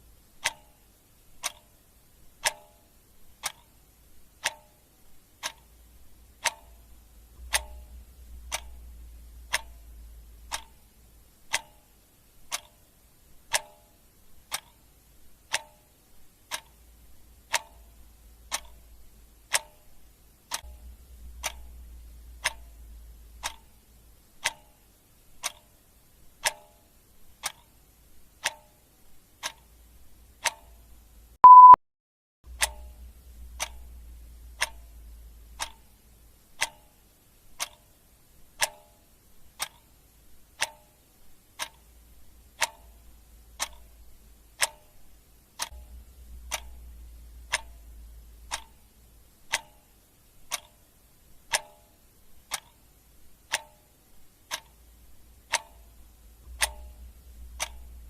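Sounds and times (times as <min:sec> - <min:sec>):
clock ticking: 0:00.0 - 0:31.8, 0:32.5 - 0:58.0
faint low hum: 0:00.0 - 0:31.8, 0:32.5 - 0:58.0.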